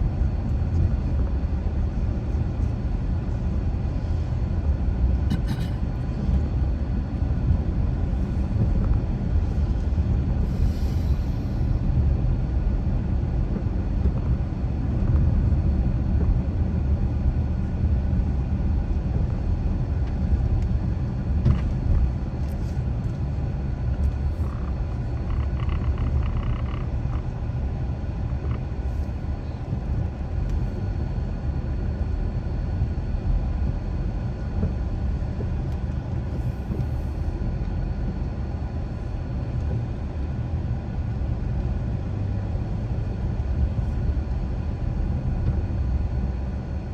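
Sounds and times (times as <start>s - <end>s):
car driving low rumble: 0.0s - 46.9s.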